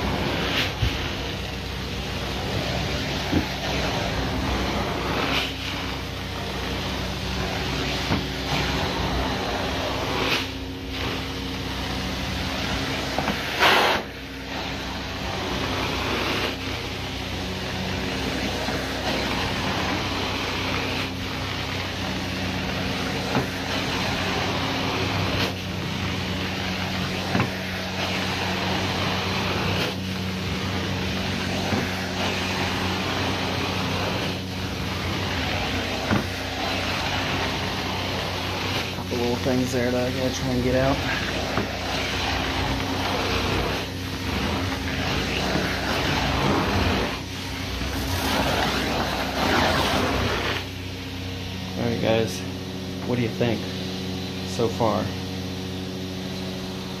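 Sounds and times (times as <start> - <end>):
suction hiss of cleaning wand: 0.0 - 51.2
carpet cleaning machine humming: 0.0 - 57.0.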